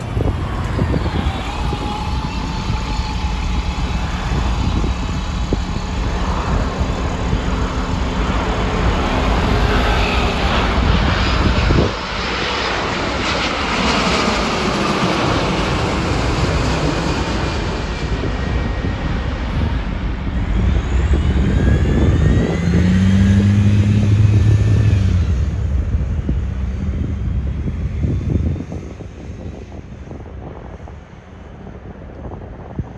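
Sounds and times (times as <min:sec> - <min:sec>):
jet airliner passing: 0:00.0 - 0:32.9
wind on microphone: 0:00.0 - 0:32.9.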